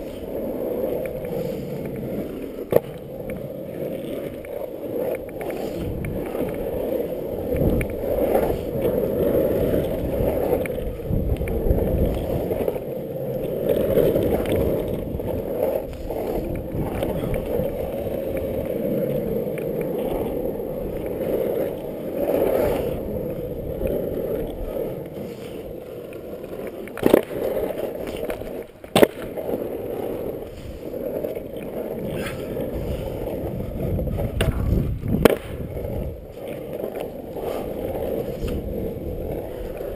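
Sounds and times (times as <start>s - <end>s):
skateboard wheels rolling on asphalt: 0.0s - 39.9s.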